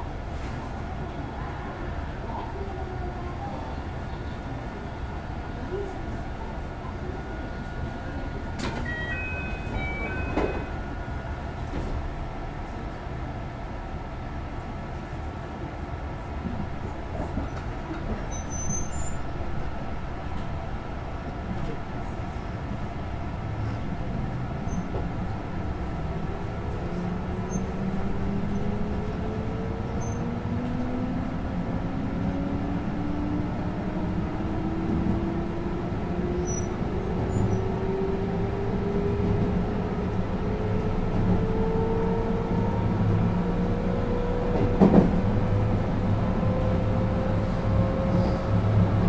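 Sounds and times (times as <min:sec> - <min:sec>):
train running noise: 0:00.0 - 0:49.0.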